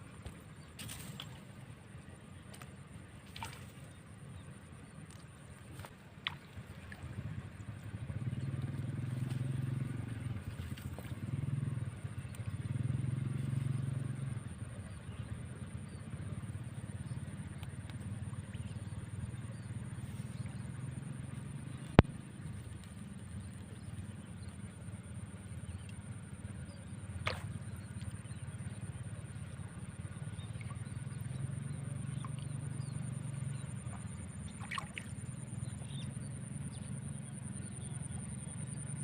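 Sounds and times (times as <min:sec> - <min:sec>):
distant engine running low: 0:00.0 - 0:39.0.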